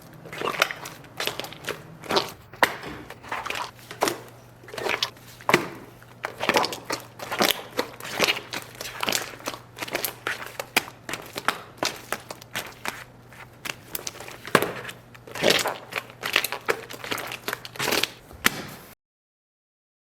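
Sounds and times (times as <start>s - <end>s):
slime squeezed with wet crackles: 0.2s - 13.0s, 13.7s - 18.2s.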